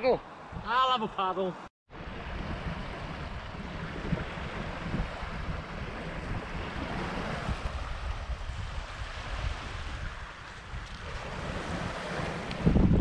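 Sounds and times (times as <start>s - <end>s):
wind buffeting microphone: 1.9s - 13.0s
waves lapping on shingle: 2.0s - 13.0s.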